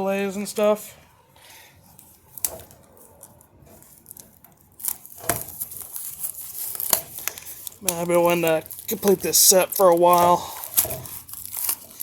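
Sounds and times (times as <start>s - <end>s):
crinkly rustling: 1.8s - 12.0s.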